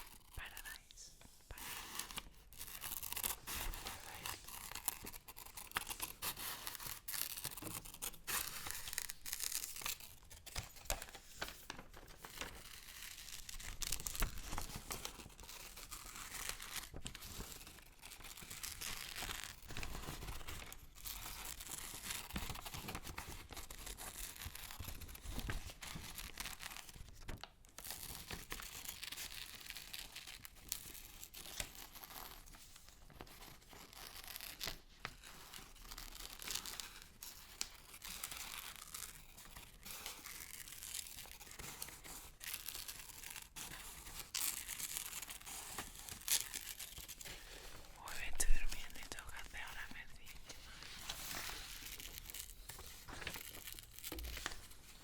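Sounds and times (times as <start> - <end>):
paper rustling and tearing: 1.5 - 55.0.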